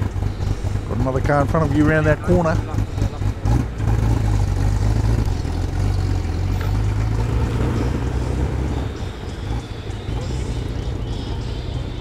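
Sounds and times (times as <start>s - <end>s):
car engine idling: 0.0s - 12.0s
car engine pulling away: 0.0s - 12.0s.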